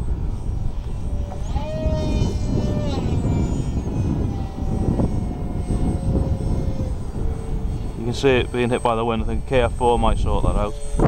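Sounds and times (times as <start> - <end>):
electric motor and propeller whine: 0.0 - 11.0
wind rumble on microphone: 0.0 - 11.0.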